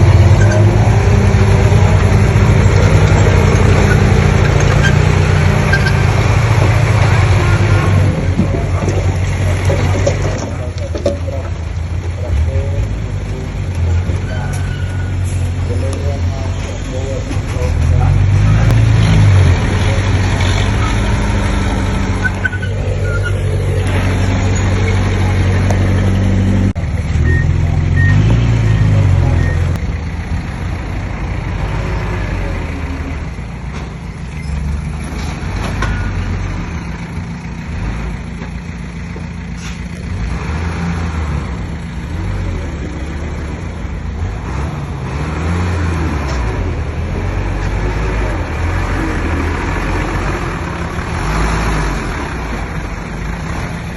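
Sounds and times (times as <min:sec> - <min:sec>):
bulldozer diesel engine working: 0:00.0 - 0:53.9.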